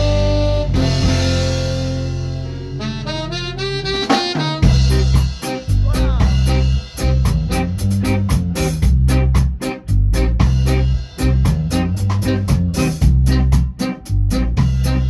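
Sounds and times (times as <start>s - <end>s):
horn line: 0.0s - 15.0s
ska band playing: 0.0s - 15.0s.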